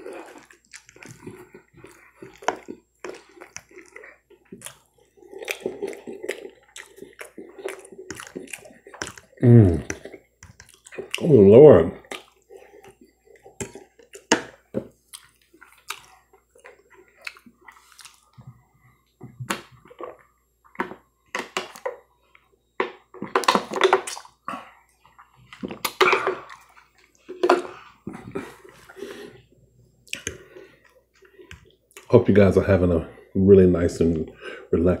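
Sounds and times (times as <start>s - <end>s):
person chewing: 0.0s - 32.1s.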